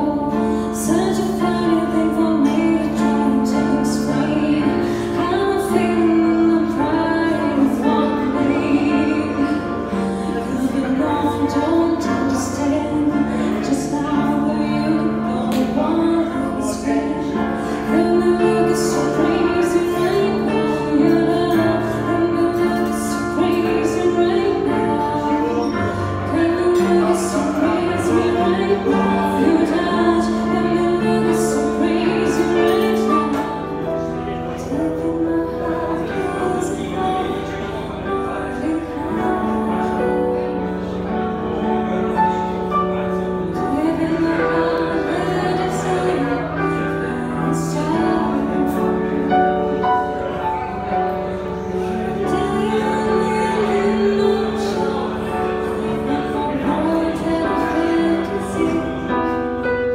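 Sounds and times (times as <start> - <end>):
digital piano: 0.0 - 59.9
woman singing into a microphone: 0.0 - 59.9.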